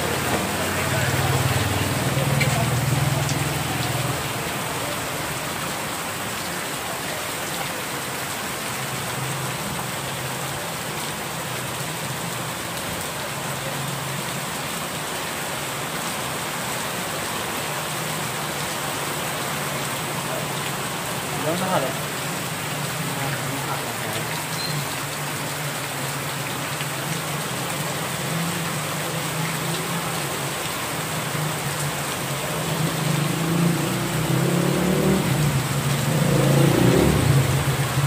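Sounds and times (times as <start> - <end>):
heavy rain on pavement: 0.0 - 38.0.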